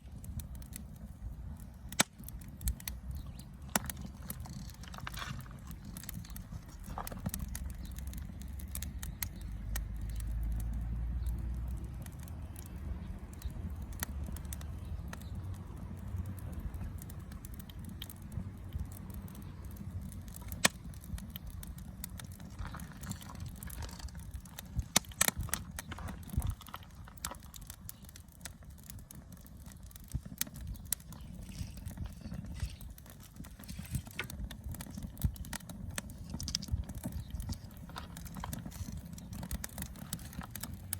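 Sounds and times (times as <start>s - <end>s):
campfire crackling: 0.0s - 40.9s
sharp pops and snaps of fire: 0.0s - 40.9s.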